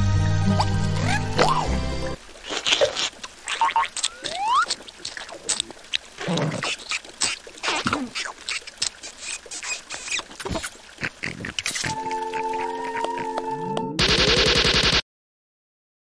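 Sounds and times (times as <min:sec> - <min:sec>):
cartoon wordless vocal noises: 0:00.4 - 0:13.4.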